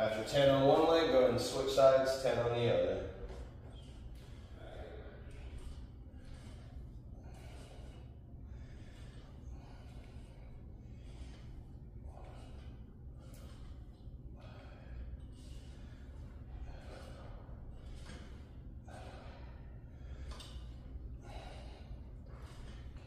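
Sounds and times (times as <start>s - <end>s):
steady low hum: 0.0s - 23.0s
man breathing hard: 3.1s - 23.0s.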